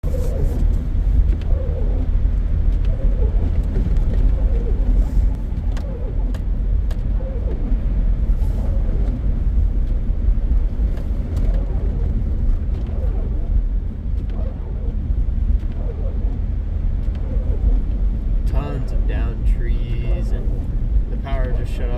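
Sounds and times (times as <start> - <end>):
engine and tyres rumbling: 0.0 - 21.9.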